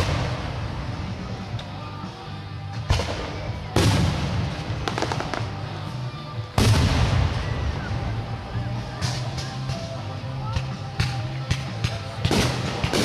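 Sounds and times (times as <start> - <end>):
firework crackling: 0.0 - 2.0, 2.7 - 10.0, 11.7 - 13.0.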